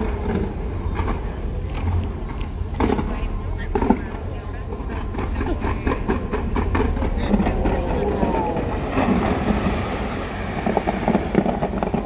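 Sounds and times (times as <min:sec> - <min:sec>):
crowd voices: 0:00.0 - 0:12.0
fireworks popping and crackling: 0:00.0 - 0:12.0
low rumble: 0:00.0 - 0:12.0.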